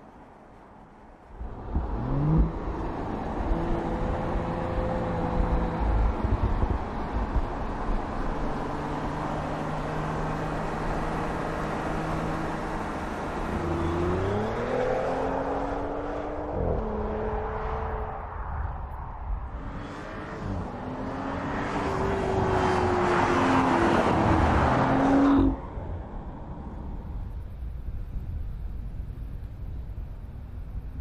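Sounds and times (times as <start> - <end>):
tyre and road noise: 0.0 - 31.0
car engine accelerating: 1.3 - 27.4.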